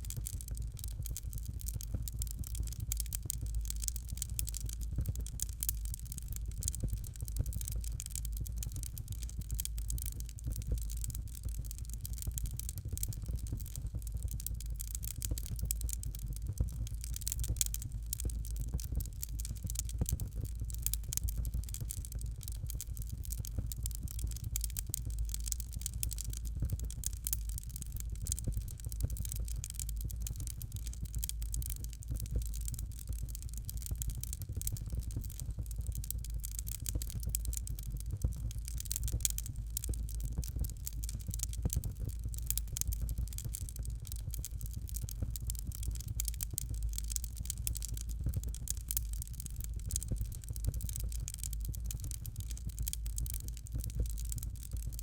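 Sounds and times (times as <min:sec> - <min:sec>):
fire crackling and popping: 0:00.0 - 0:55.0
low fire rumble: 0:00.0 - 0:55.0.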